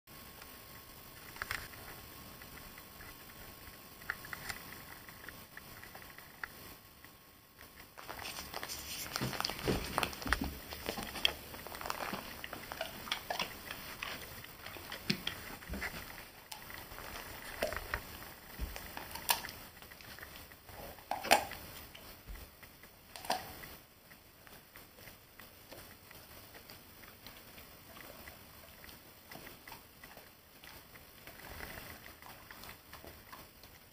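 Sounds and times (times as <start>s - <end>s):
dog crunching peanuts: 1.1s - 33.9s.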